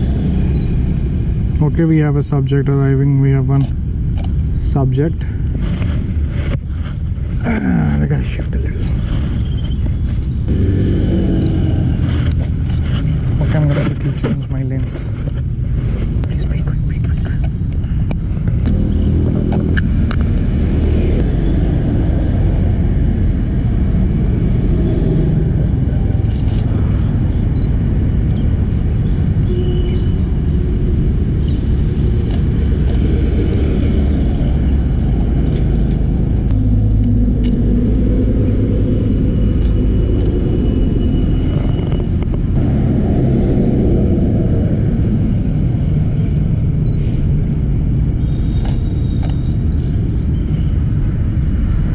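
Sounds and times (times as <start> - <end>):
low traffic rumble: 0.0 - 51.9
vehicle engines passing: 0.0 - 51.9.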